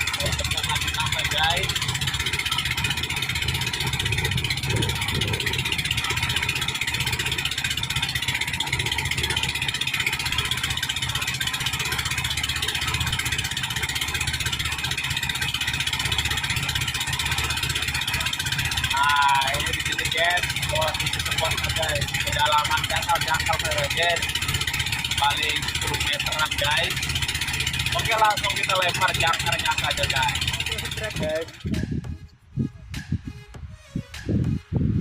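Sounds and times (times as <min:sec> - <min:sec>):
boat engine rumbling: 0:00.0 - 0:35.0.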